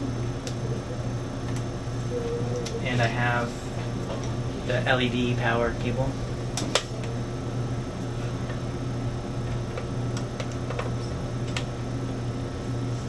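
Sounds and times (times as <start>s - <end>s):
low hum of lab equipment: 0.0s - 13.0s.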